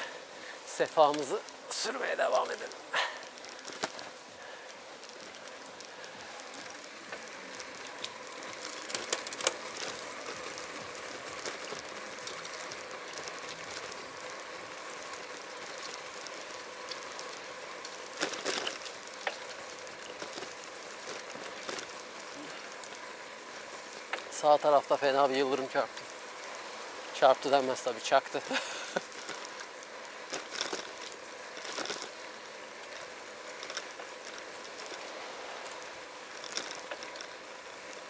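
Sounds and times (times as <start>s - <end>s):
bicycle tyres on wet road: 0.0s - 38.0s
light rain hiss: 0.0s - 38.0s.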